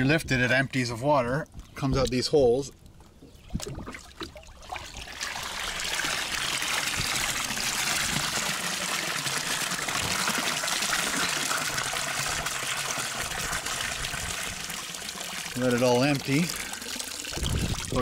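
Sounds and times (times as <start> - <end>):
water splashing into lake: 3.4 - 18.0
water pouring from drain hole: 3.5 - 18.0.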